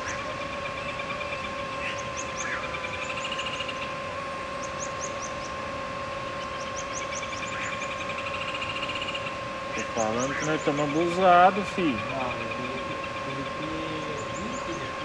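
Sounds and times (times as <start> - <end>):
birds chirping: 0.0 - 15.0
steady high-pitched hum: 0.0 - 15.0
trilled bird call: 0.0 - 15.0.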